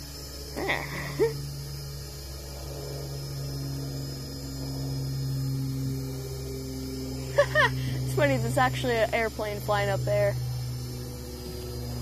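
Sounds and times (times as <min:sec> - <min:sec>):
quadcopter motors buzzing: 0:00.0 - 0:12.0.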